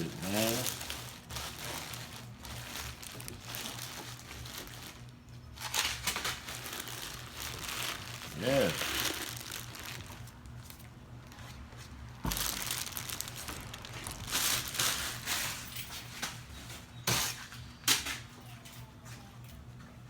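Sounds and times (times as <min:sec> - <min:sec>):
packaging crinkling and rustling: 0:00.0 - 0:18.2.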